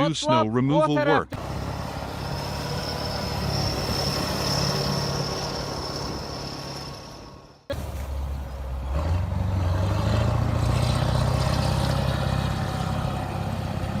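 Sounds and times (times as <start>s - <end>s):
diesel engine revving: 1.3s - 14.0s.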